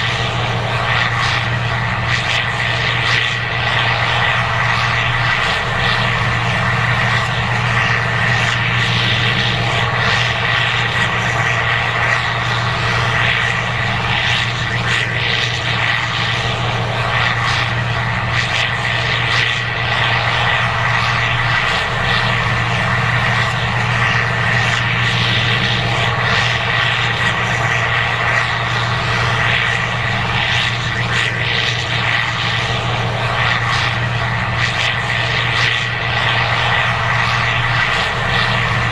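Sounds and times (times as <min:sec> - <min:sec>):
combine engine drone: 0:00.0 - 0:38.9
high-pitched machine whine: 0:00.0 - 0:38.9.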